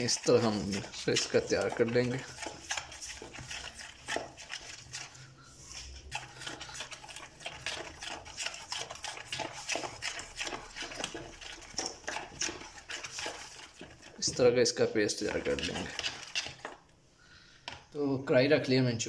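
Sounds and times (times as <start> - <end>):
spoon beating batter in a bowl: 0.0 - 17.0.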